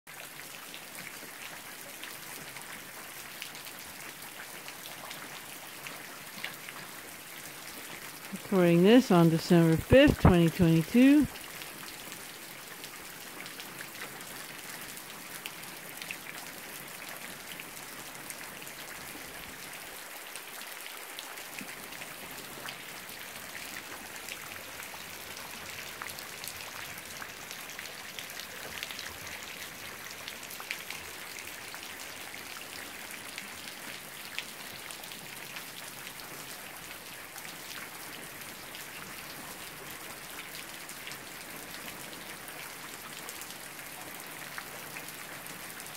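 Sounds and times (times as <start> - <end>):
rain on foliage: 0.1 - 45.9.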